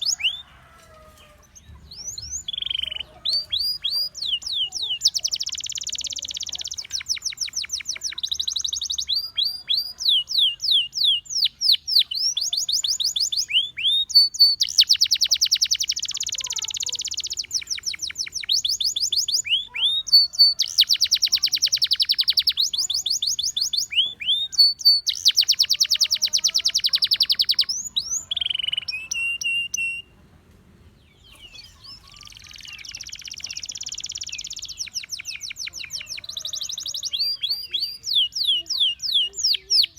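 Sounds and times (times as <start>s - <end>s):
canary singing: 0.0s - 30.2s, 31.0s - 39.9s.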